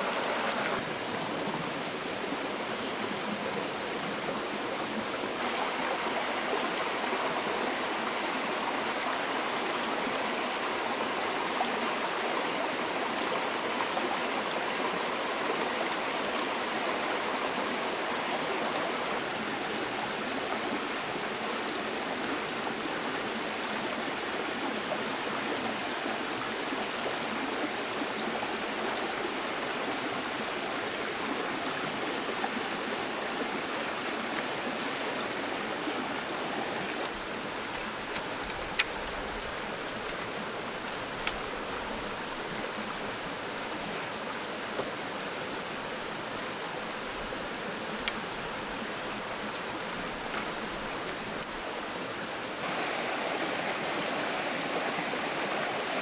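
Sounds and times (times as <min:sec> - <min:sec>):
stream flowing water: 0:00.0 - 0:56.0.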